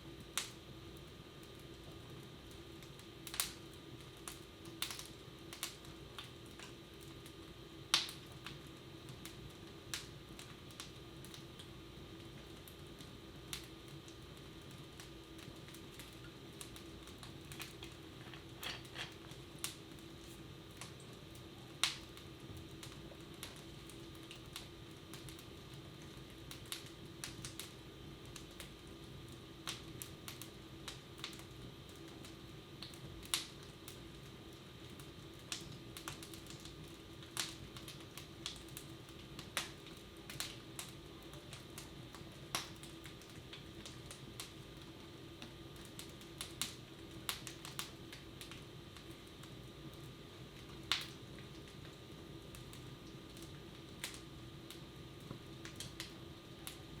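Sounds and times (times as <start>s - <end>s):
low household hum: 0.0s - 57.0s
wood fire crackling: 0.0s - 57.0s.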